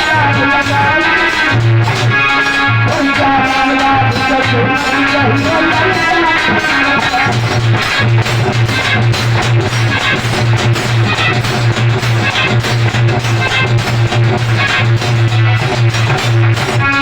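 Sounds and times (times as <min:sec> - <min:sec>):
instrumental folk music: 0:00.0 - 0:17.0.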